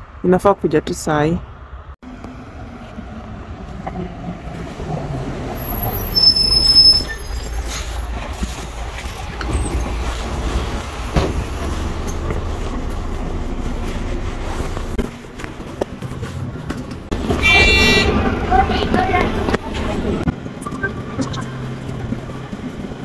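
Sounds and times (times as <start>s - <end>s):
bus engine rumble: 0.0s - 23.0s
brakes squealing: 2.1s - 23.0s.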